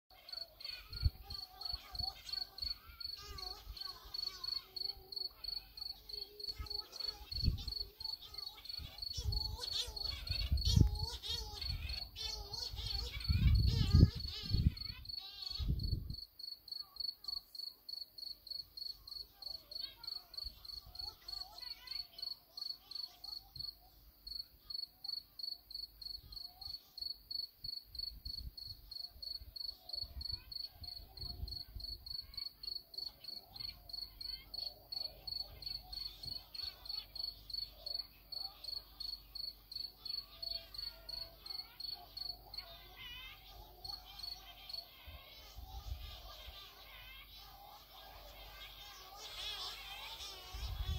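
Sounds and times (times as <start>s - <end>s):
cricket chirping: 0.1s - 50.9s.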